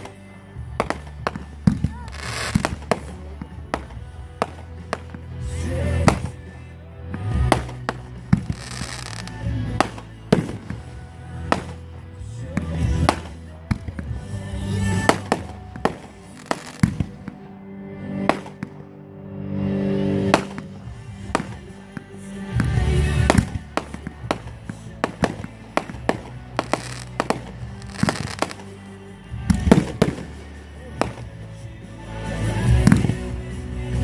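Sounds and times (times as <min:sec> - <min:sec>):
fireworks bursting and crackling: 0:00.0 - 0:06.6, 0:07.2 - 0:17.4, 0:18.2 - 0:18.9, 0:20.2 - 0:33.4
music with long held notes: 0:00.0 - 0:34.0.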